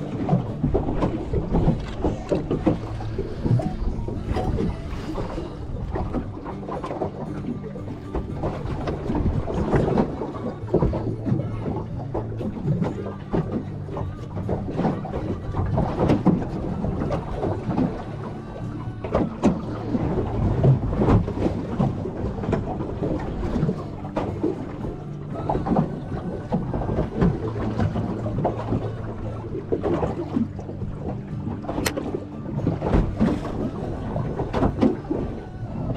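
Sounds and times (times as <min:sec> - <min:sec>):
water slapping against boat hull: 0:00.0 - 0:35.9
wind: 0:00.0 - 0:35.9.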